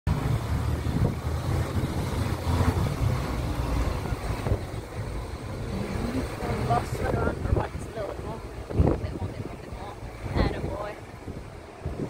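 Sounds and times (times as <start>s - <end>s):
bus engine rumble: 0.1s - 12.0s
wind buffeting microphone: 0.1s - 12.0s.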